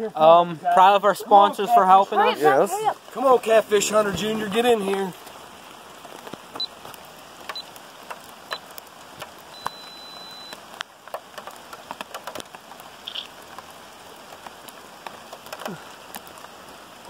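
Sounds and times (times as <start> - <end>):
raindrops ticking on hard surfaces: 0.0 - 17.0
steady rain falling: 0.0 - 17.0.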